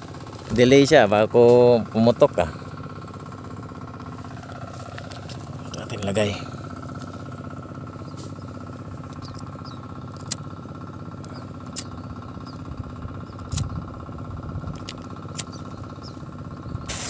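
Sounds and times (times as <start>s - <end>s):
steady motor drone: 0.0s - 17.0s.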